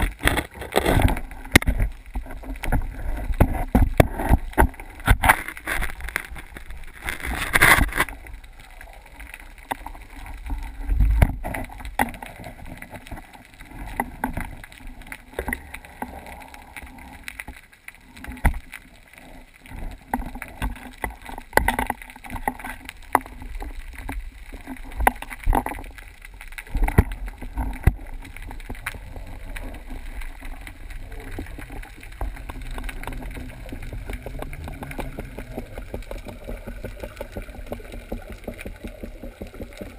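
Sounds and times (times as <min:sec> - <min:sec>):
muffled underwater water noise: 0:00.0 - 0:39.9
water gurgling: 0:00.0 - 0:39.9.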